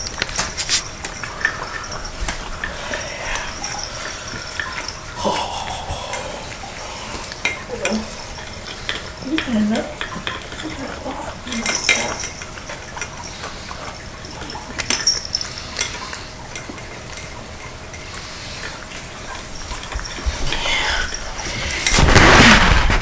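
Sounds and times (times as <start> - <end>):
cats chewing: 0.0 - 22.0.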